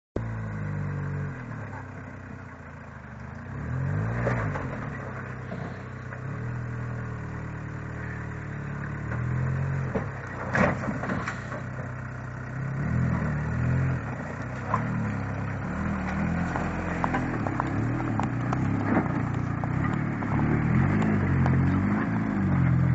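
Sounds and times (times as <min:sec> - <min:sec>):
vehicle engine revving: 0:00.2 - 0:22.9.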